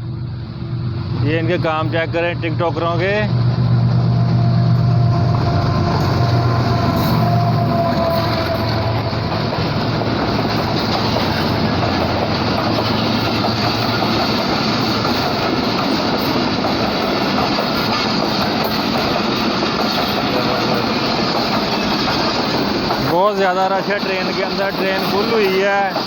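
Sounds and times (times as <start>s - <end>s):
diesel locomotive drone: 0.0s - 26.0s
train wheels rumbling on rail: 0.0s - 26.0s.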